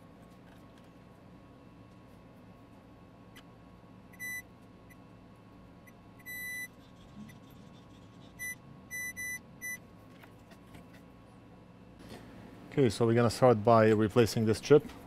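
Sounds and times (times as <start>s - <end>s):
faint equipment hum: 0.0s - 15.0s.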